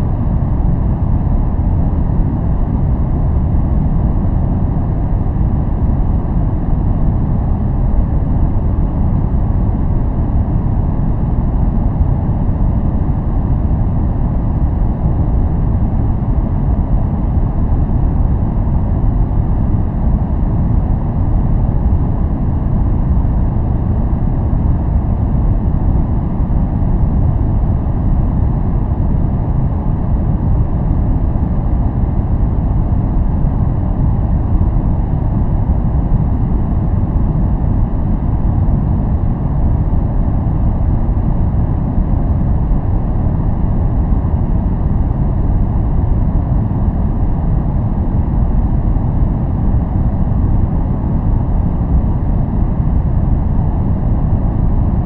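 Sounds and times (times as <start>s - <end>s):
deep steady brown noise: 0.0s - 55.0s.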